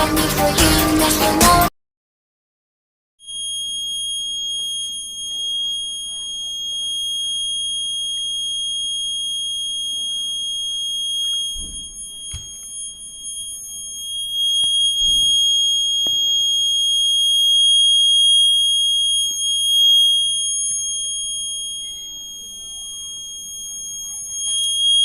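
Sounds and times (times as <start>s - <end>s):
high-pitched alarm buzzer: 3.3s - 25.0s.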